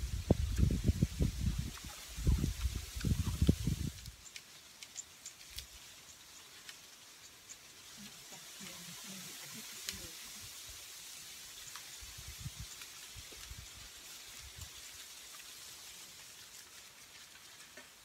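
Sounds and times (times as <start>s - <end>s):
steady faint hiss: 0.0s - 18.0s.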